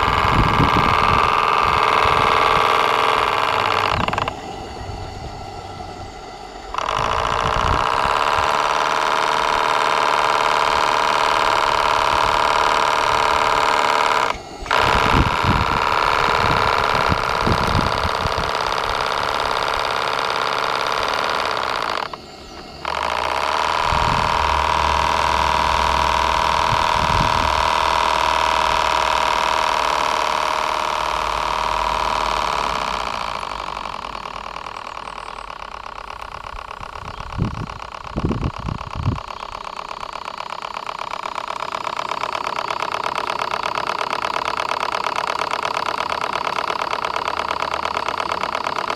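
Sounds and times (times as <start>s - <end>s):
model steam engine buzzing: 0.0s - 48.9s.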